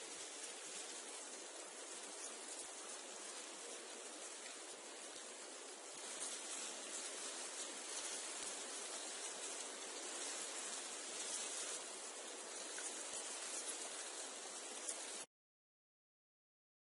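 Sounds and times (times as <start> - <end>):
wind rustling through reeds: 0.0 - 15.3.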